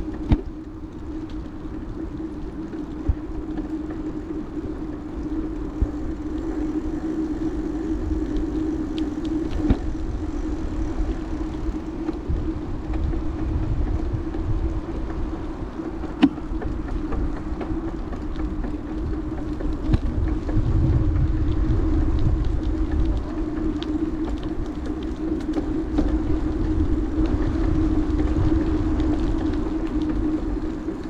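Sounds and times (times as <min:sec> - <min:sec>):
bicycle tyre rumble: 0:00.0 - 0:31.0
steady low hum: 0:00.0 - 0:31.0
wind on microphone: 0:00.0 - 0:31.0.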